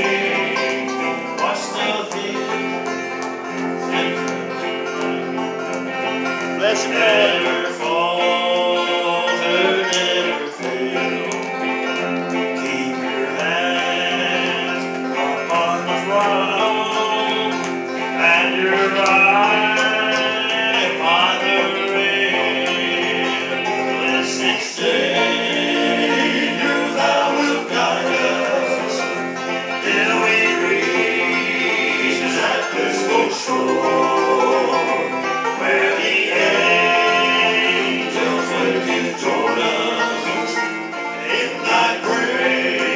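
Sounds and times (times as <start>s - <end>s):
banjo: 0.0s - 42.9s
electric guitar: 0.0s - 42.9s
men singing in harmony: 0.0s - 42.9s.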